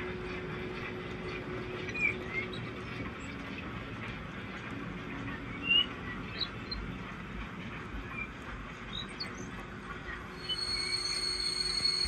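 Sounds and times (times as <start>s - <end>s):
model trains rolling hum: 0.0s - 12.0s.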